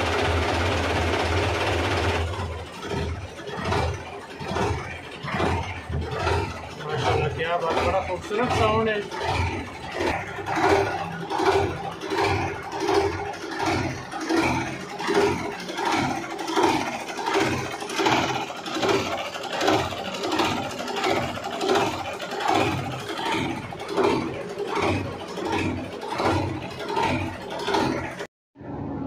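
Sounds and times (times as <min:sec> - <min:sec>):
tractor diesel engine idling: 0:00.0 - 0:28.2.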